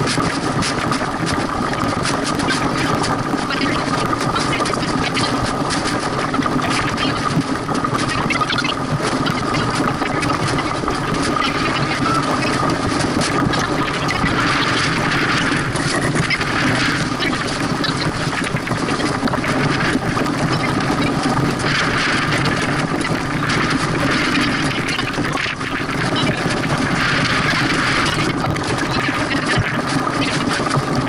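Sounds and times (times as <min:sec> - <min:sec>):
water rushing along hull: 0:00.0 - 0:31.0
wind on microphone: 0:00.0 - 0:31.0.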